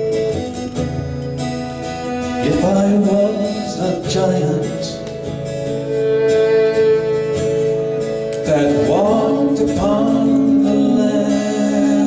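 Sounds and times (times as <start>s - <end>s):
violin playing folk music: 0.2s - 12.0s.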